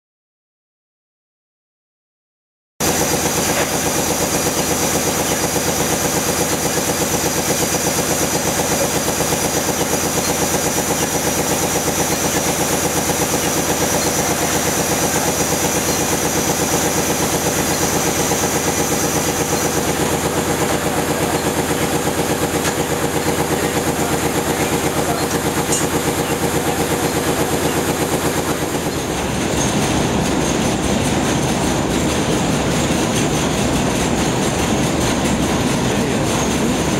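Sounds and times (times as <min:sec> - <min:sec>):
machinery rhythmic clatter: 0:02.8 - 0:36.9
reels spinning fast: 0:02.8 - 0:36.9.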